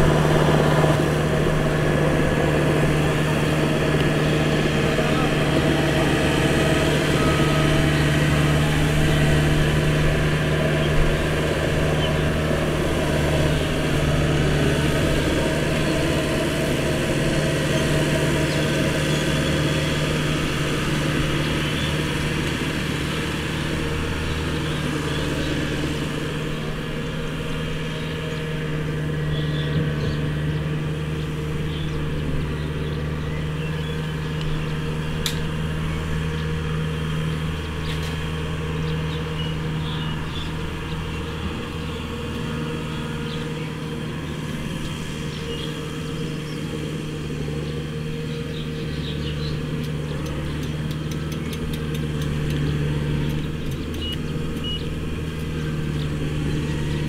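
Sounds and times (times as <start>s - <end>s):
harvester engine drone: 0.0s - 57.0s.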